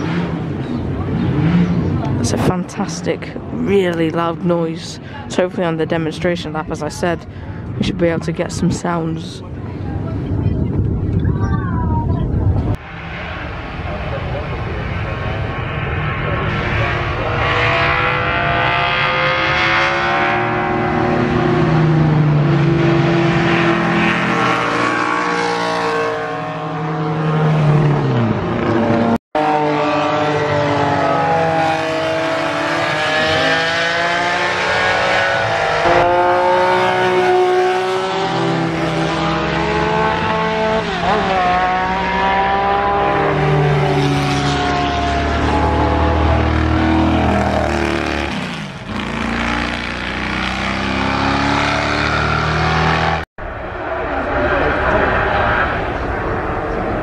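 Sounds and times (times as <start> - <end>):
racing car engines: 0.0 - 57.0.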